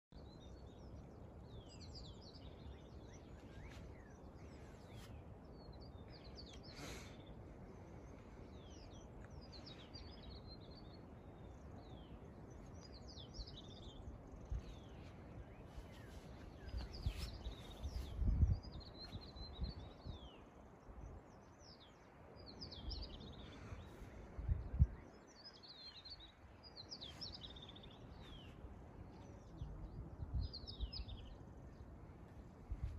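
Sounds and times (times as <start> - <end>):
birds chirping and singing: 0.2 - 32.0
faint outdoor hiss: 0.2 - 32.9.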